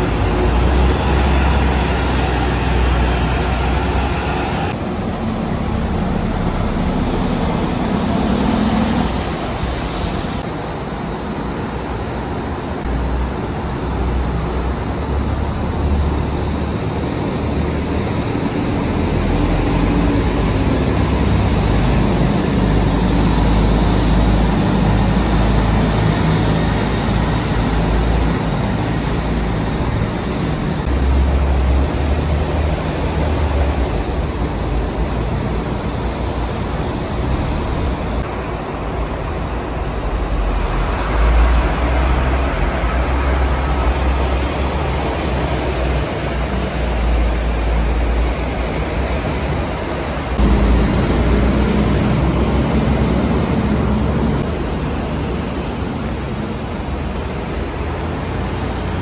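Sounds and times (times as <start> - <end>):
bus engines rumbling: 0.0 - 59.0
street traffic: 0.0 - 59.0.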